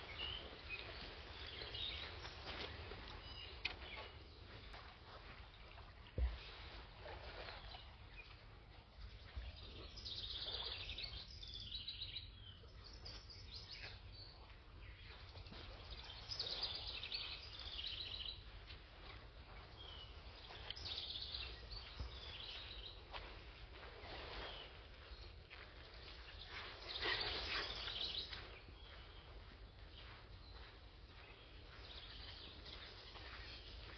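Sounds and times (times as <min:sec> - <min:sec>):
songbird singing: 0:00.0 - 0:06.6, 0:07.2 - 0:33.9.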